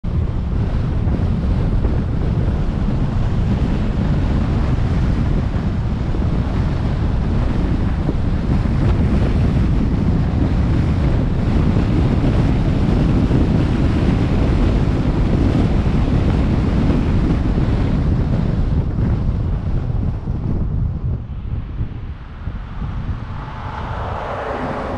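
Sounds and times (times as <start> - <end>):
road noise: 0.0 - 15.3, 18.9 - 24.9
wind rushing over microphone: 0.0 - 24.9.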